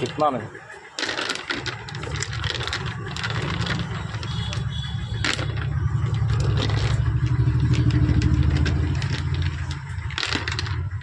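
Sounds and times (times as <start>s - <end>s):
vehicle engine running: 1.8s - 11.0s.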